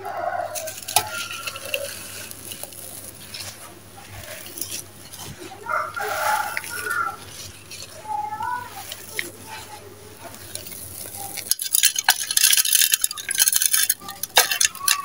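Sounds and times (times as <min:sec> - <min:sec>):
gritty crunching of crumbling chunks: 0:00.0 - 0:15.0
powder sifting down: 0:00.0 - 0:15.0.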